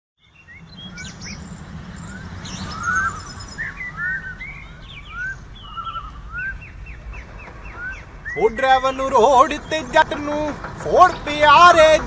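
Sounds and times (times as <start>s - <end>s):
birds calling and chirping: 0.2s - 12.0s.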